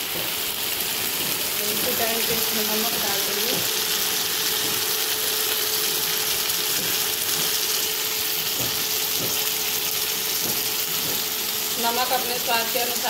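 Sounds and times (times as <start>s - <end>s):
onion masala sizzling: 0.0s - 13.0s.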